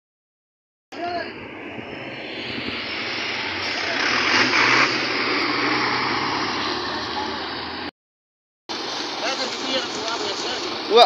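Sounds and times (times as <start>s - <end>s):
truck passing: 1.3s - 7.9s, 8.7s - 11.0s.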